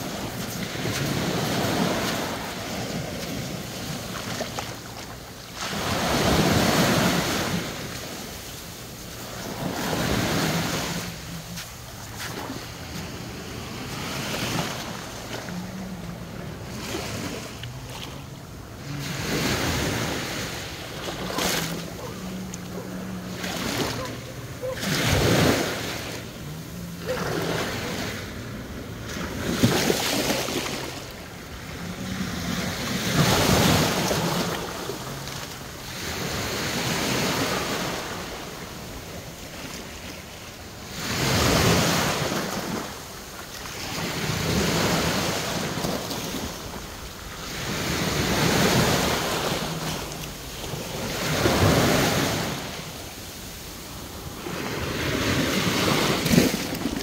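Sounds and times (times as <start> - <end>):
waves washing over rocks: 0.0 - 57.0.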